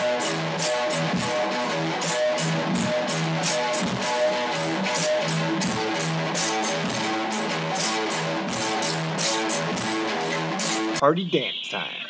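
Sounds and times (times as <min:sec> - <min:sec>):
steady drum beat: 0:00.0 - 0:11.8
strummed guitar: 0:00.0 - 0:12.0.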